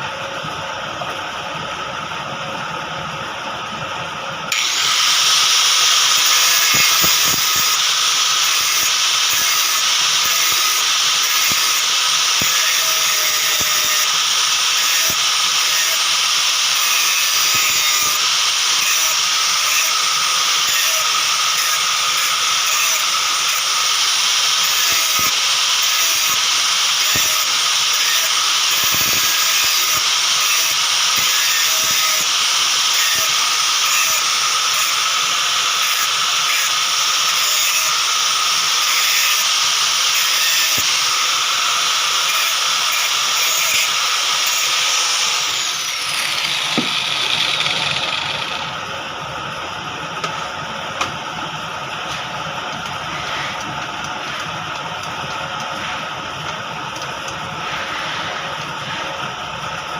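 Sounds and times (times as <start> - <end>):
machine hissing: 4.5 - 59.9.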